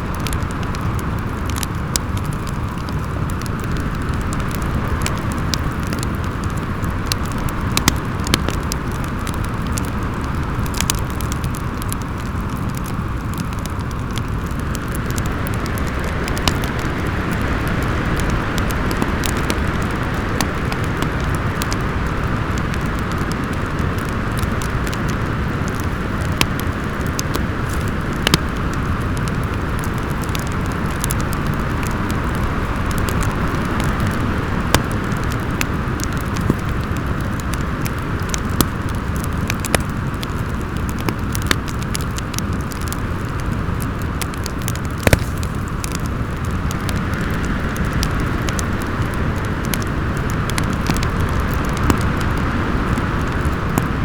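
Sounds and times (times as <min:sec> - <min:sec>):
storm wind howling: 0:00.0 - 0:54.0
wood fire crackling and popping: 0:00.0 - 0:54.0.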